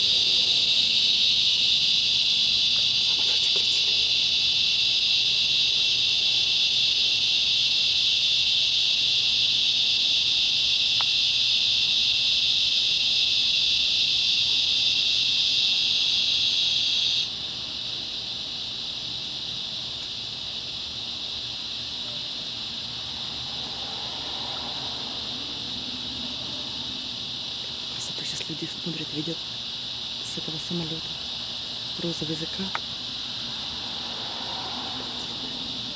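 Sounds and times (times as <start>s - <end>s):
cicadas buzzing: 0.0s - 35.9s.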